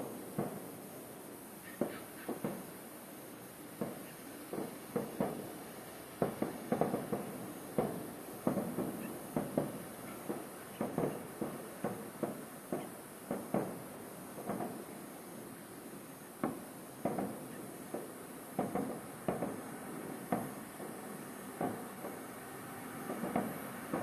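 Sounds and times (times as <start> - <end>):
fireworks bangs with echo: 0.0 - 0.8, 1.6 - 2.7, 3.8 - 5.6, 6.2 - 15.0, 16.4 - 22.3, 23.0 - 24.0.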